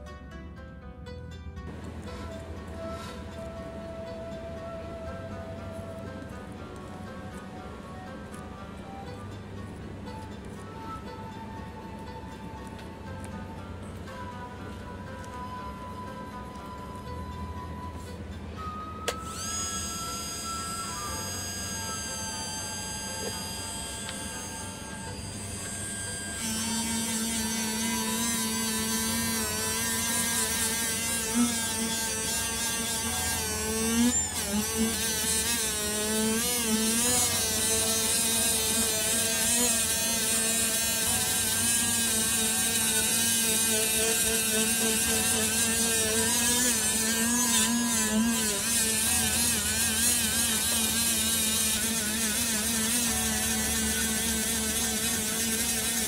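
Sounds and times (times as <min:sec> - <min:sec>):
rotary tool motor whine: 0:01.6 - 0:56.0.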